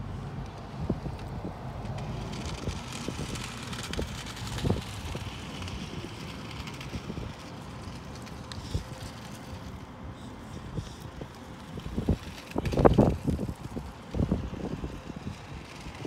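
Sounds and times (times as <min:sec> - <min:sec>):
wind rumbling on microphone: 0:00.0 - 0:16.0
small robot motors and wheels: 0:00.4 - 0:16.0.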